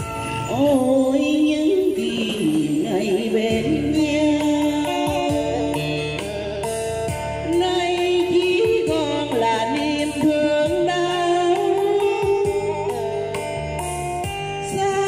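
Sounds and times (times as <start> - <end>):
woman singing into microphone: 0.0 - 13.6, 14.2 - 15.0
karaoke backing track: 0.0 - 15.0.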